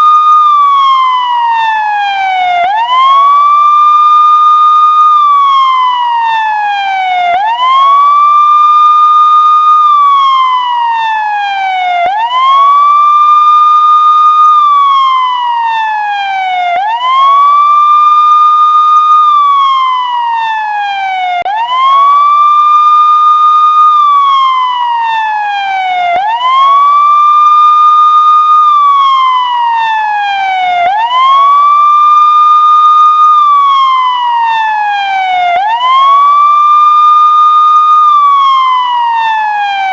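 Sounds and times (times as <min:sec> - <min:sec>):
emergency vehicle siren wailing: 0:00.0 - 0:39.9.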